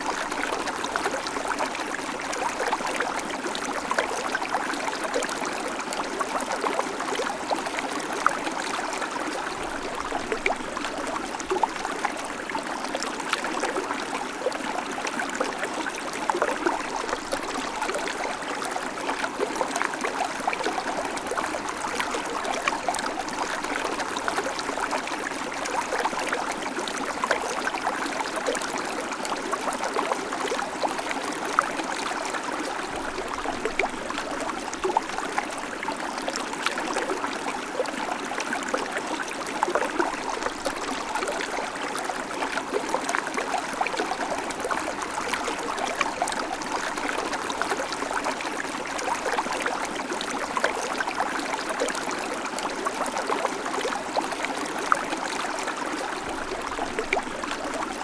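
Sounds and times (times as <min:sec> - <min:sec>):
creek water running over stones: 0:00.0 - 0:58.0.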